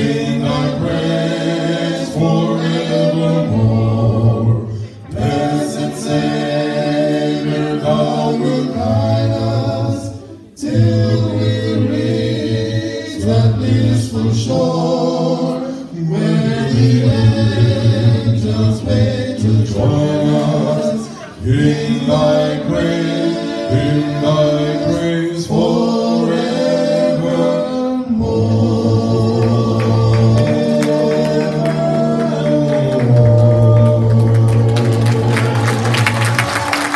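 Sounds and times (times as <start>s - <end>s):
male vocal quartet singing: 0.0s - 36.9s.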